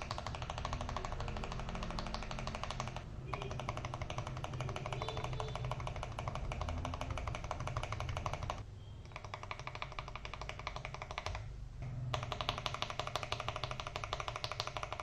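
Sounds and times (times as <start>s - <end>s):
mechanical keyboard key clacks: 0.0s - 11.4s, 12.1s - 15.0s.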